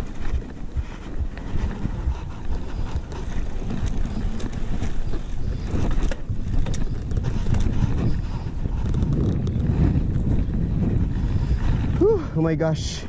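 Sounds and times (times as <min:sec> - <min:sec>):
bike tyre rumble on concrete: 0:00.0 - 0:13.0
wind buffeting microphone: 0:00.0 - 0:13.0.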